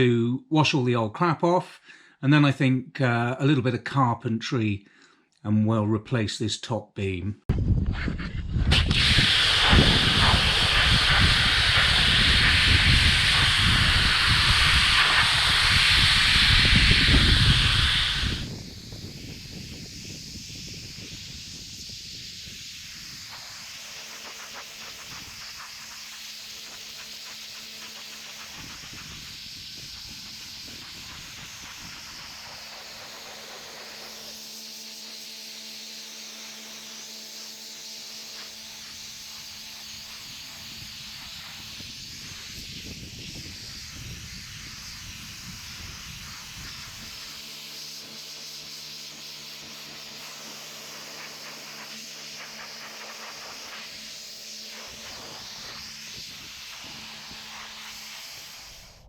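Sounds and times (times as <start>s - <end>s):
pressure washer spraying: 8.7s - 59.0s.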